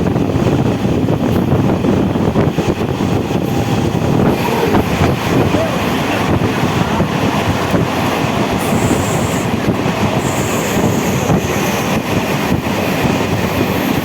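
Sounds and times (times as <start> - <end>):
train running gear rumble: 0.0 - 14.0.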